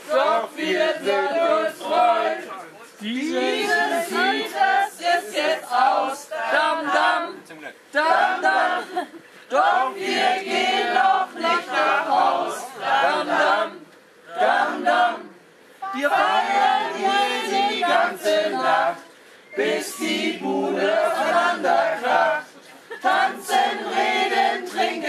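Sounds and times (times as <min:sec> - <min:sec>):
group singing together: 0:00.0 - 0:25.0.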